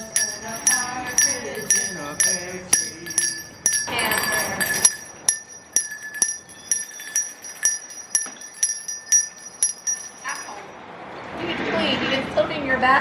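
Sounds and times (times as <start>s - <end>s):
handbell ringing: 0.0s - 10.7s.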